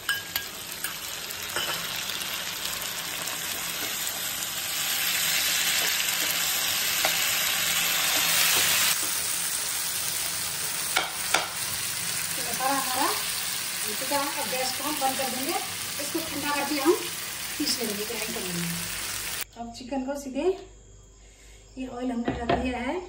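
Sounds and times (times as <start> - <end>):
curd sizzling in hot oil: 0.0 - 19.4.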